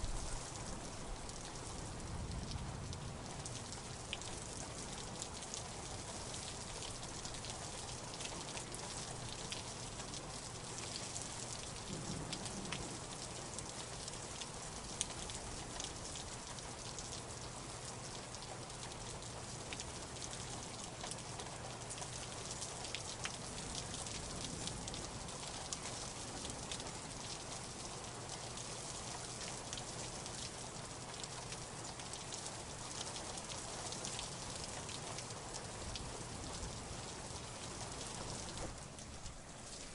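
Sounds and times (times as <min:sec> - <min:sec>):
raindrops ticking: 0:00.0 - 0:39.9
steady rain hiss: 0:00.0 - 0:39.9.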